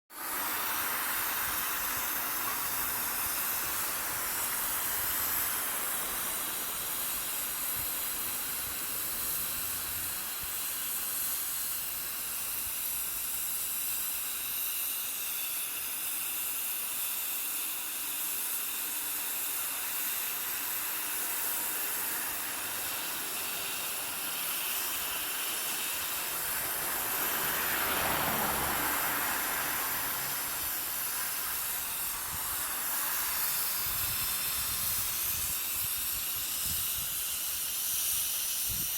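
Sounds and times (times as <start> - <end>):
steam hissing from radiator: 0.1 - 38.9.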